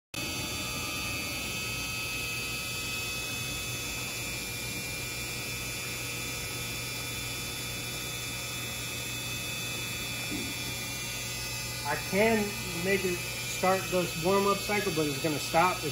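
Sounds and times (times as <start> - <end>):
faint high whining tones: 0.2 - 15.9
machine electrical hum: 0.2 - 15.9.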